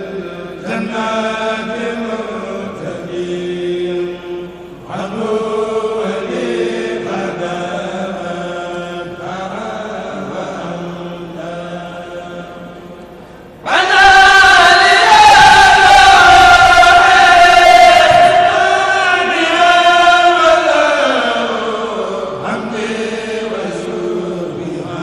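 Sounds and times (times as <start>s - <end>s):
men chanting in unison: 0.0s - 25.0s.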